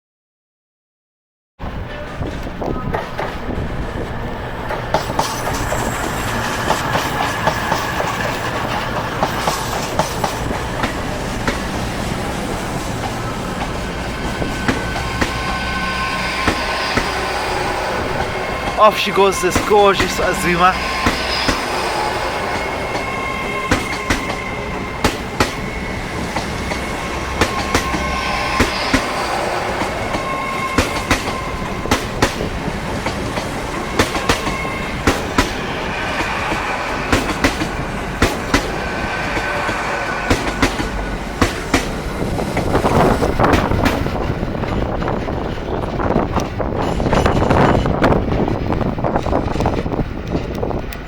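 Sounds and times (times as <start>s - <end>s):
rushing noise: 1.7s - 51.0s
train wheels clicking over rail joints: 1.8s - 18.8s, 19.5s - 51.0s.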